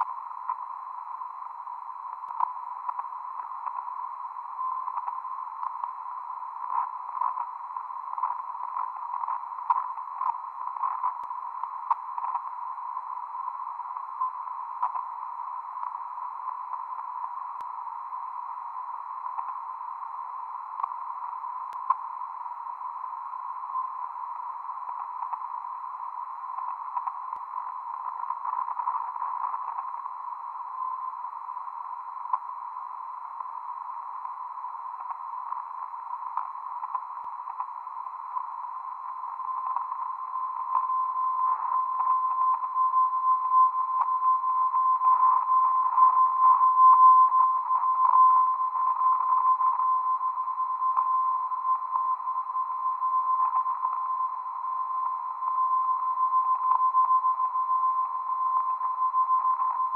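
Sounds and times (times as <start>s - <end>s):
radio hiss: 0.0s - 59.9s
steady radio tone: 0.0s - 59.9s.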